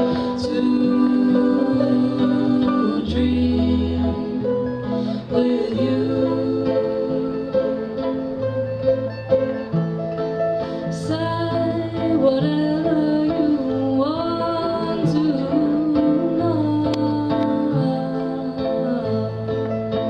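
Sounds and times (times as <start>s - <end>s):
person singing: 0.0s - 8.4s, 10.8s - 20.0s
bass line: 0.0s - 20.0s
guitar plucked and strummed: 0.0s - 20.0s.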